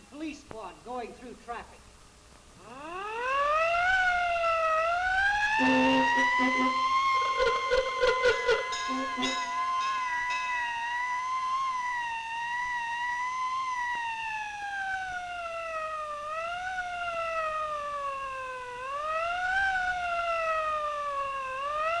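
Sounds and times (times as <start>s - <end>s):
police siren: 2.6s - 22.0s.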